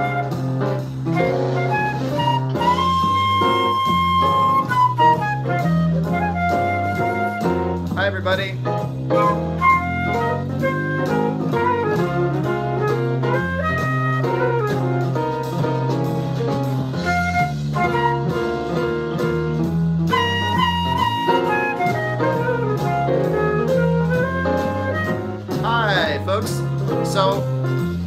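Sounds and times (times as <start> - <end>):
bass and drum backing track: 0.0 - 28.0
flute playing jazz: 0.0 - 28.0.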